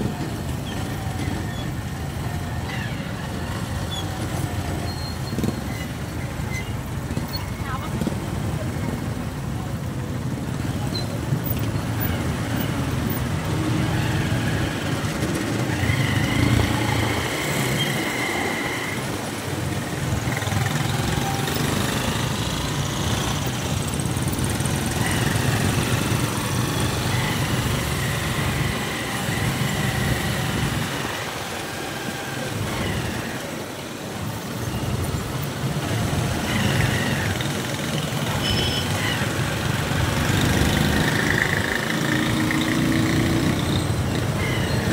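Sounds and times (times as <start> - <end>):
small motorcycle engines running: 0.0 - 44.9
vehicles moving slowly: 0.0 - 44.9.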